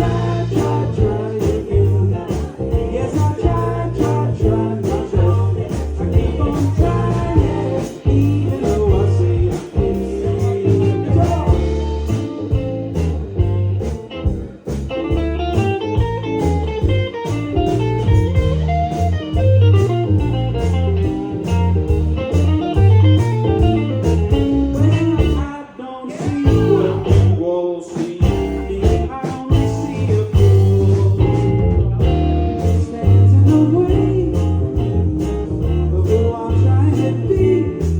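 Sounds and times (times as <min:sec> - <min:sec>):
electric guitar: 0:00.0 - 0:37.9
live band playing: 0:00.0 - 0:37.9.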